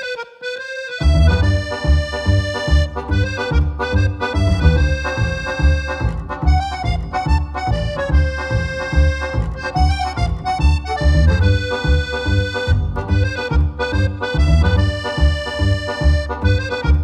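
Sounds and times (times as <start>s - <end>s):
melody over steady bass beat: 1.0s - 17.0s.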